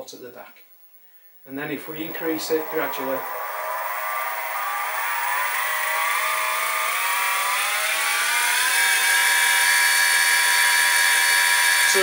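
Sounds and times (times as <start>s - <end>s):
mill motor whine rising: 1.6s - 12.0s.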